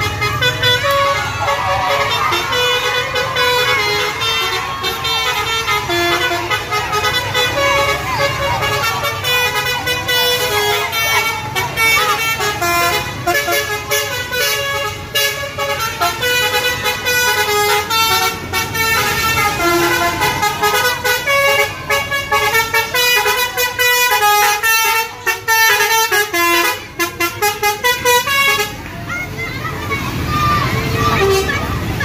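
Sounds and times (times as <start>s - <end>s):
bus horn playing melody: 0.0s - 28.8s, 30.9s - 32.0s.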